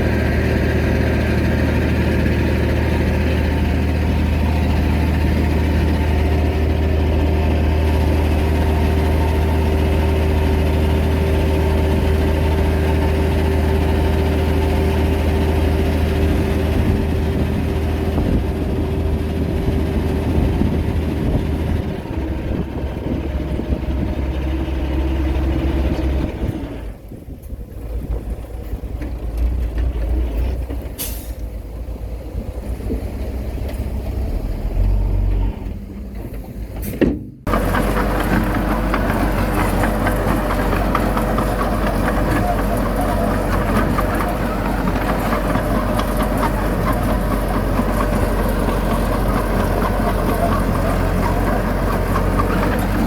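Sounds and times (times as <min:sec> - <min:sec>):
diesel machinery engine drone: 0:00.0 - 0:53.0.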